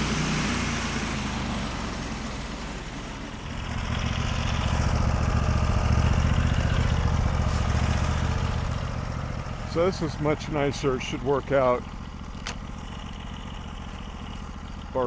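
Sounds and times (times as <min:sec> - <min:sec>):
small engine running: 0:02.9 - 0:15.0.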